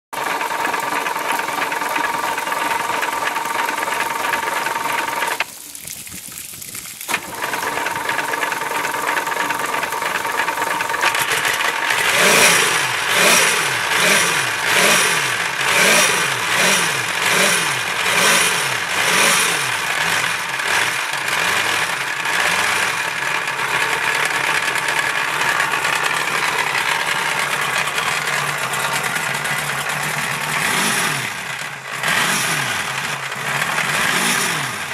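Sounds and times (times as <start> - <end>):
boat engine running: 0.2 - 5.7, 7.1 - 34.9.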